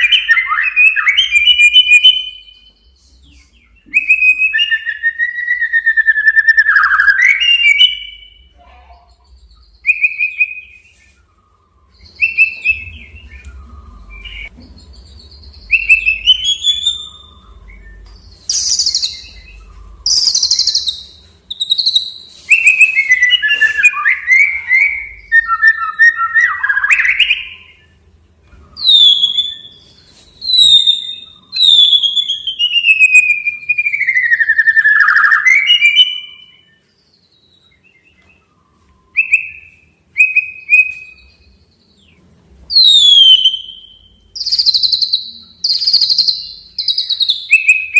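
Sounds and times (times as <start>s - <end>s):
bird singing whistled phrases: 0.0s - 14.5s, 15.4s - 28.0s, 28.6s - 36.9s, 37.6s - 41.5s, 42.7s - 47.9s.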